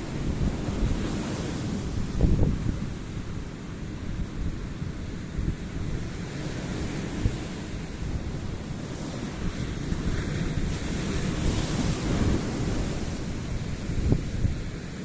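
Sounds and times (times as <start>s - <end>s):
waves breaking: 0.0s - 15.0s
wind buffeting microphone: 0.0s - 15.0s.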